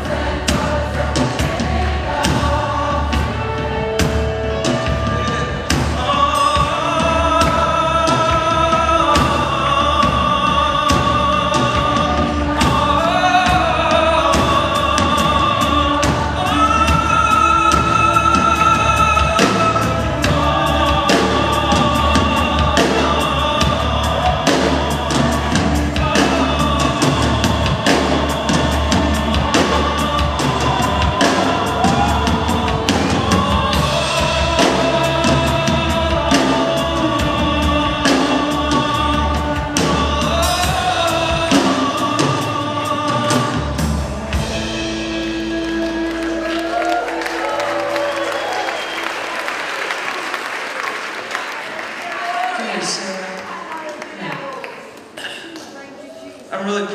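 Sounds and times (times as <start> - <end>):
electric bass: 0.0 - 48.5
drum kit: 0.0 - 49.5
crowd singing along: 0.0 - 51.8.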